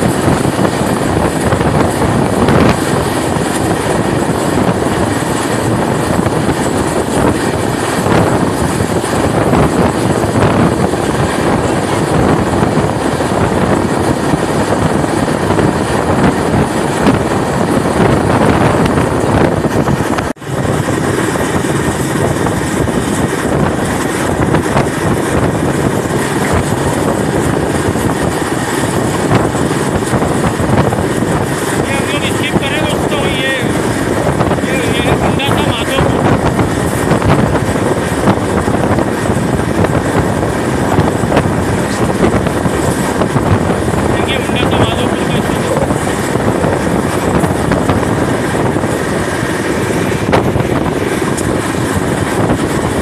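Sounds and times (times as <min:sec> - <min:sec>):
train wheels rumbling and rattling: 0:00.0 - 0:53.0
wind buffeting microphone: 0:00.0 - 0:53.0.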